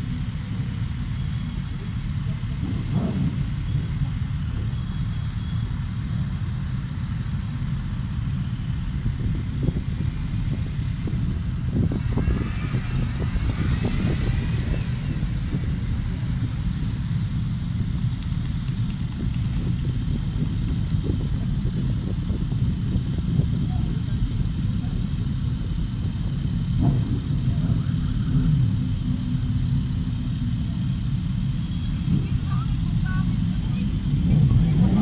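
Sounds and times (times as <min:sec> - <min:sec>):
motorcycles engine rumble: 0:00.0 - 0:35.0.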